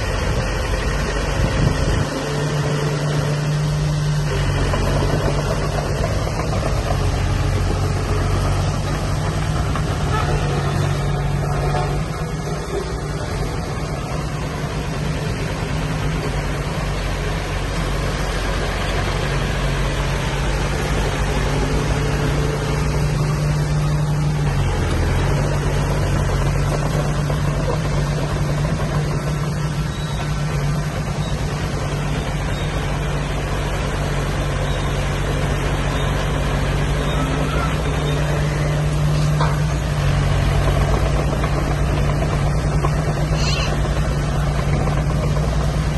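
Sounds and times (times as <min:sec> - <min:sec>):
heavy machinery diesel engine running: 0:00.0 - 0:45.9.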